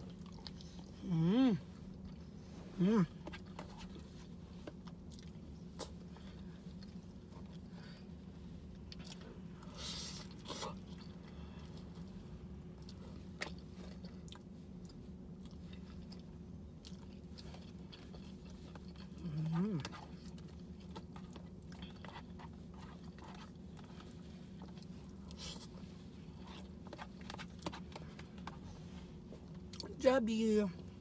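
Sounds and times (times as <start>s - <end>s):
person chewing food: 0.0s - 1.0s, 3.1s - 29.9s
low steady hum: 0.0s - 31.0s.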